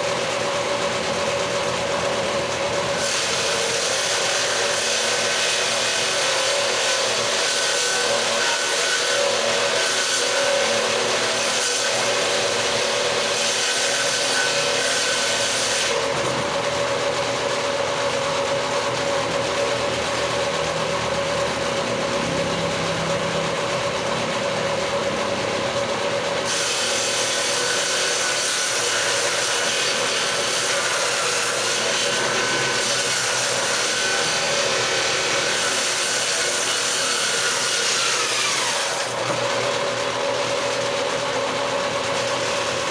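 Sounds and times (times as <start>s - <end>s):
power tool cutting wood: 0.0s - 42.9s.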